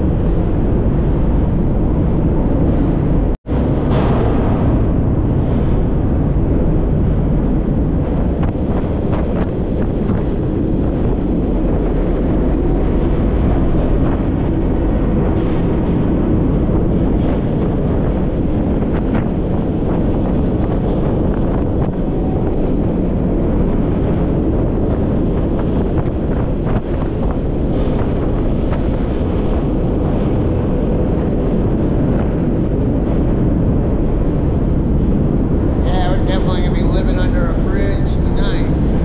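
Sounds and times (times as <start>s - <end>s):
train wheels rumbling on rails: 0.0s - 39.0s
wind buffeting microphone: 0.0s - 39.0s.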